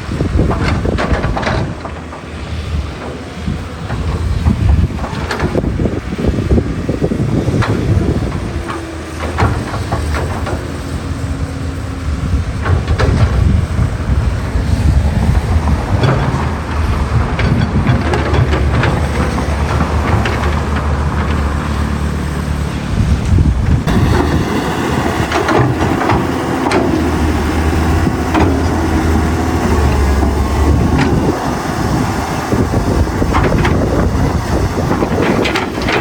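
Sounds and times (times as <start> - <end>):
excavator engine drone: 0.0 - 36.0.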